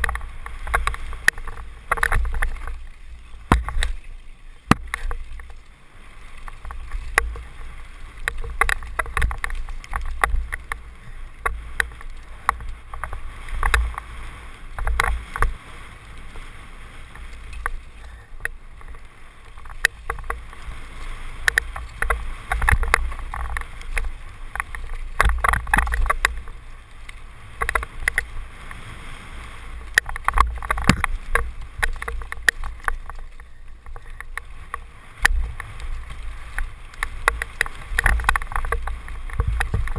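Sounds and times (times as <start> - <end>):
bike rattling over stones: 0.0 - 39.9
wind rumbling on microphone: 0.0 - 39.9.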